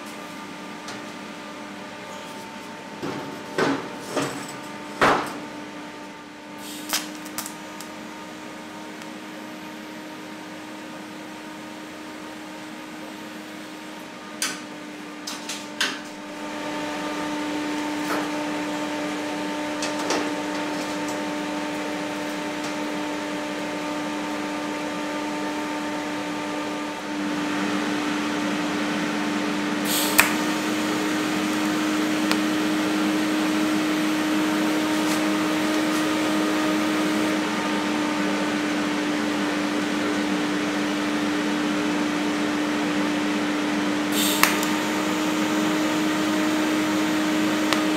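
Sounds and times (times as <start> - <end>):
welding set hum and fan: 0.0 - 47.9.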